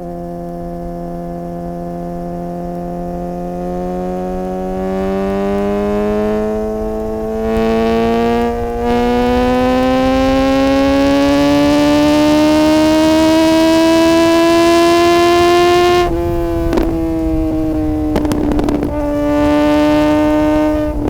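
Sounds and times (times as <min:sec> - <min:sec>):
motorcycle engine revving: 0:00.0 - 0:21.0
sharp exhaust cracks: 0:00.1 - 0:21.0.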